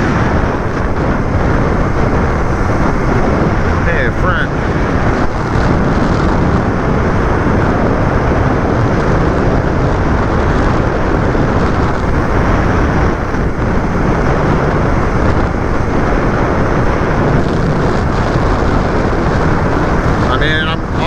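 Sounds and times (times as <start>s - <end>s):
vehicle road and wind noise: 0.0s - 21.0s.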